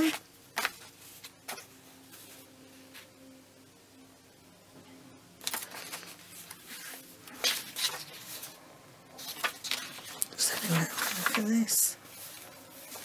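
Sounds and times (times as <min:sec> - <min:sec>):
paper rustling: 0:00.0 - 0:03.1, 0:05.4 - 0:13.0.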